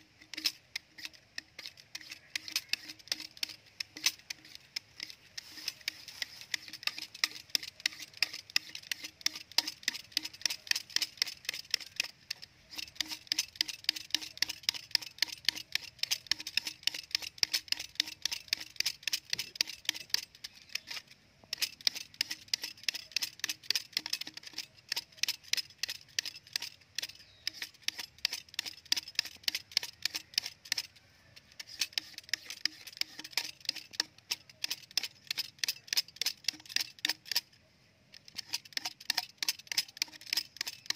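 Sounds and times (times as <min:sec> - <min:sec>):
knife blade scraping bamboo: 0:00.0 - 0:40.9.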